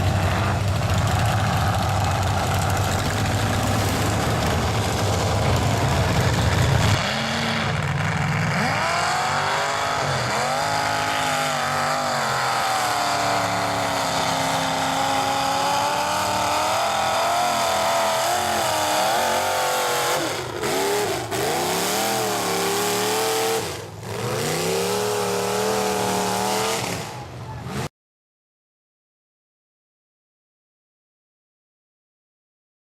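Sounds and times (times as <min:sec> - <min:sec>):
truck engine revving hard: 0:00.0 - 0:27.9.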